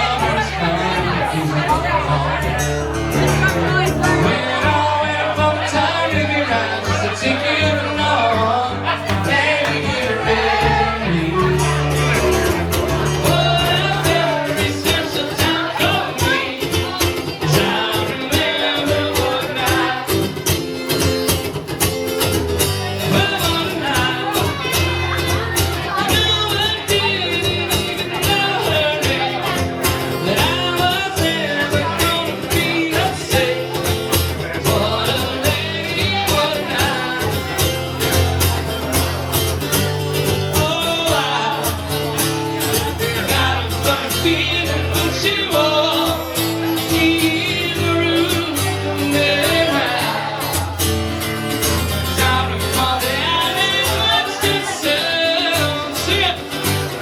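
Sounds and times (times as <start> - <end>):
person singing: 0.0 - 21.2, 22.8 - 39.0, 39.7 - 57.0
country-rock band playing: 0.0 - 57.0.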